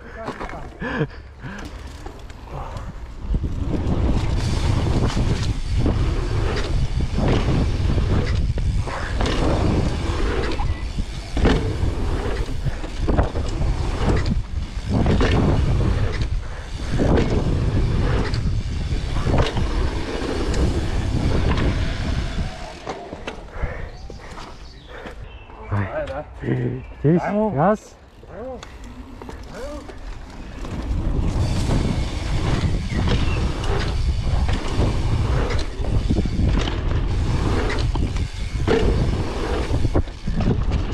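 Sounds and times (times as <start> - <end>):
bike knocks and rattles: 1.6 - 23.5, 29.1 - 40.9
wind buffeting microphone: 2.4 - 25.9, 29.5 - 40.9.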